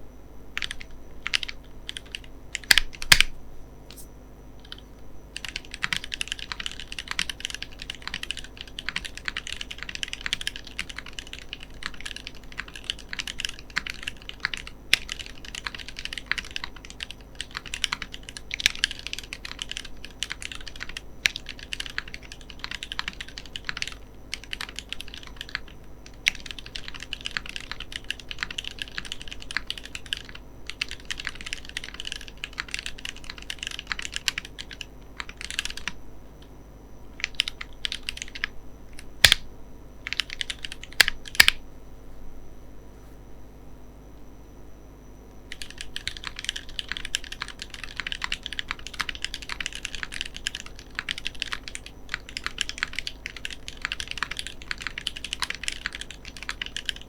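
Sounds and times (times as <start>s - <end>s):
mechanical keyboard typing: 0.6s - 4.0s, 4.6s - 36.0s, 37.2s - 39.5s, 40.1s - 41.6s, 45.5s - 57.0s.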